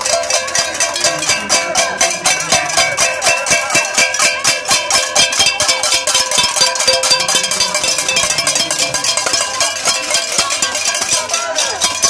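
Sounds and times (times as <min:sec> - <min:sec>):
metal pots being beaten: 0:00.0 - 0:12.0.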